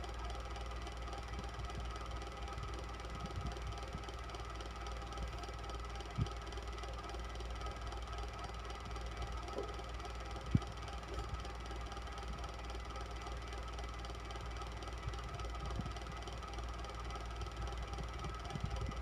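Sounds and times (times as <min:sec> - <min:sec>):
electric fan whirring: 0:00.0 - 0:19.0.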